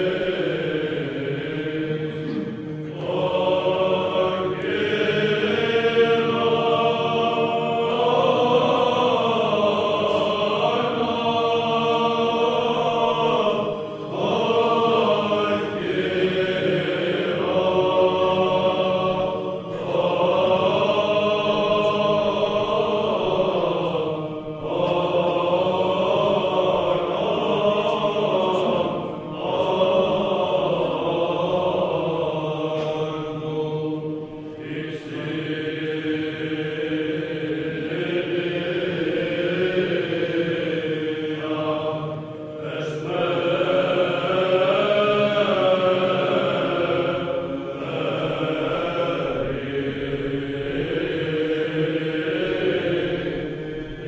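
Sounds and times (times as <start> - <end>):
voices chanting slow melody: 0.0 - 54.0.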